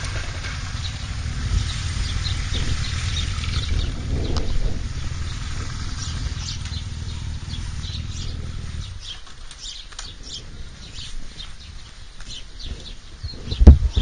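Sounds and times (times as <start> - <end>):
low rumble: 0.0 - 14.0
small birds chirping: 0.0 - 14.0.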